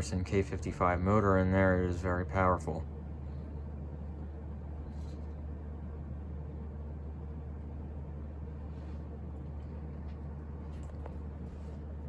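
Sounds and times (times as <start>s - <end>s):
ceiling fan blades moving air: 0.0s - 12.0s.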